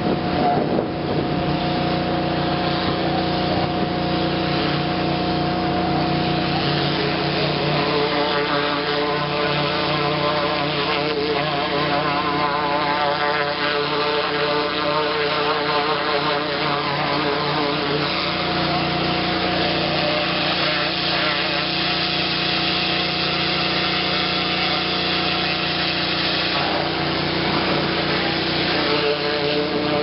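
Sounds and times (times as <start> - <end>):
pressure washer running: 0.0 - 30.0.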